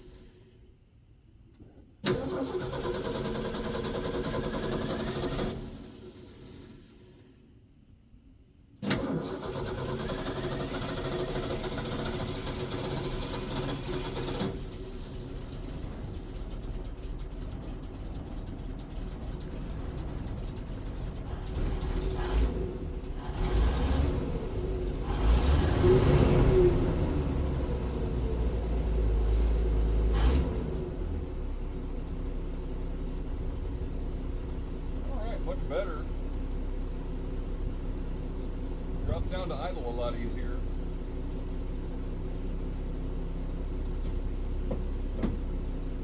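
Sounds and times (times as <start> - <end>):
truck engine starting and revving: 2.0 - 7.1, 8.8 - 46.0.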